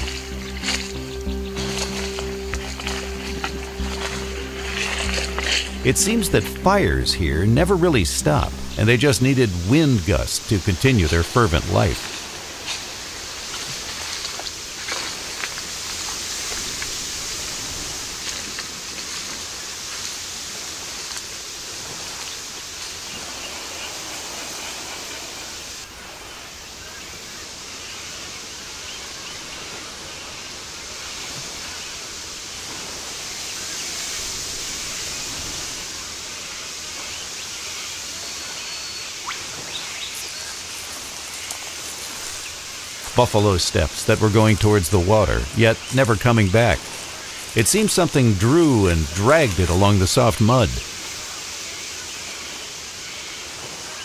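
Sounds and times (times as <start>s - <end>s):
outdoor hiss: 0.0s - 54.0s.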